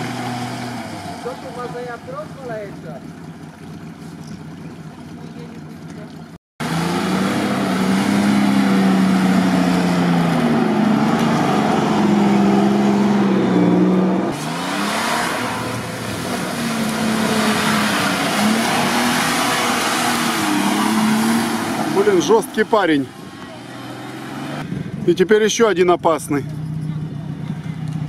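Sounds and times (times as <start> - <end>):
suv engines revving in mud: 0.0 - 4.8, 6.6 - 25.3.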